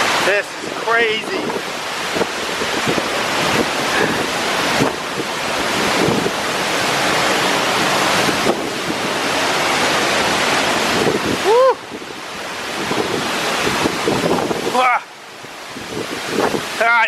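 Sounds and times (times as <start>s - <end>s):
waterfall rushing: 0.0s - 17.0s
wind buffeting microphone: 0.0s - 17.0s.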